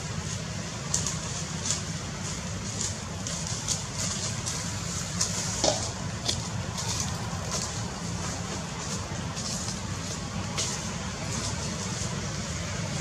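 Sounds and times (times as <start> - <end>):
dry leaves rustling: 0.0 - 13.0.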